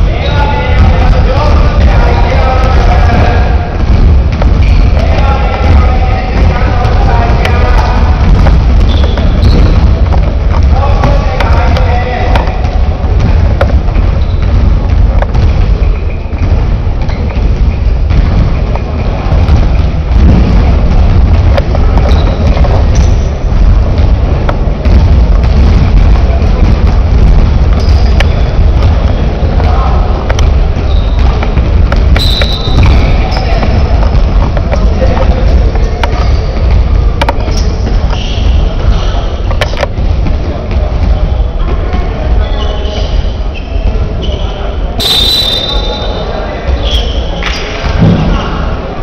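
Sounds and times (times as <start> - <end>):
loud low rumble: 0.0 - 42.4
voices echoing in a hall: 0.0 - 49.0.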